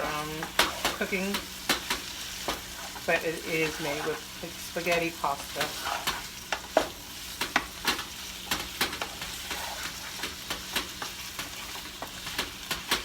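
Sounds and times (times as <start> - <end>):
utensil scraping a pan: 0.0 - 12.4
chicken sizzling in a frying pan: 0.0 - 13.0.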